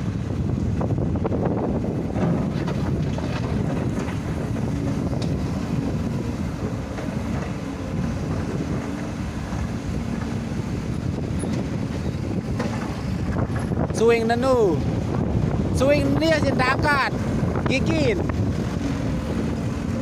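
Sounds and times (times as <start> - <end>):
heavy diesel machinery rumbling: 0.0 - 20.0
wind buffeting microphone: 0.0 - 20.0.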